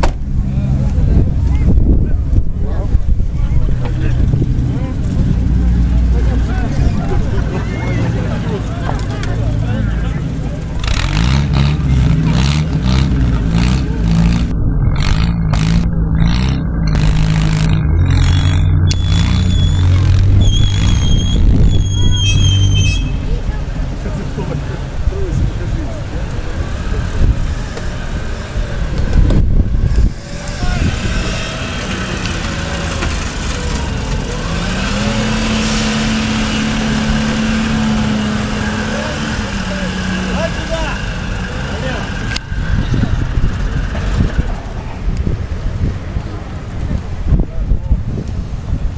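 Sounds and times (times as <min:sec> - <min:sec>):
engine revving: 0:00.0 - 0:45.3.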